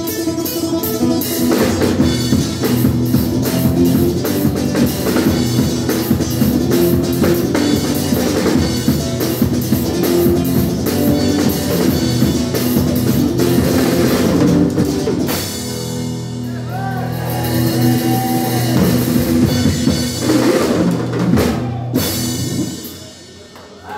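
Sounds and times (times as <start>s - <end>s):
drum kit played hard: 0.0s - 23.5s.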